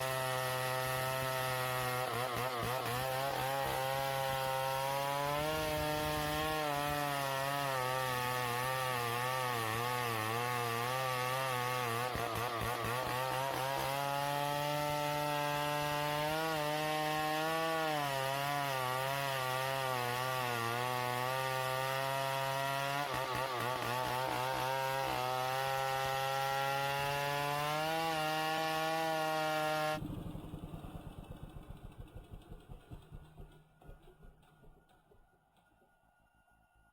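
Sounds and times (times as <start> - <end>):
chainsaw cutting wood: 0.0 - 30.8, 31.5 - 35.2.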